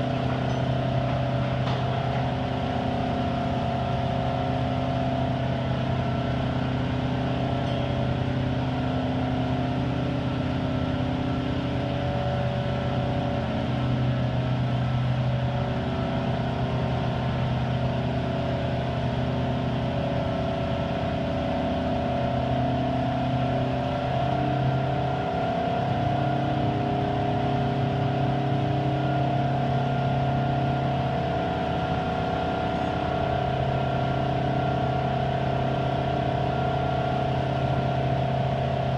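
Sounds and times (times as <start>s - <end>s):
crane diesel engine running: 0.0s - 38.9s.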